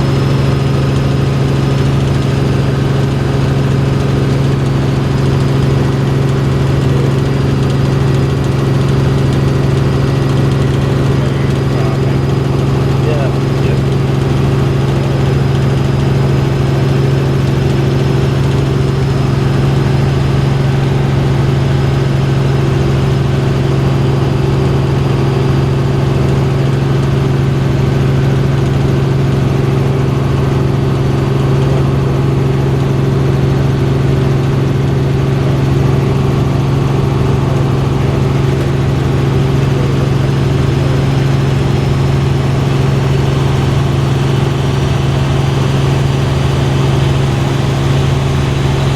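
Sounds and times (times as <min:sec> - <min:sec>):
helicopter engine and rotors: 0:00.0 - 0:48.9.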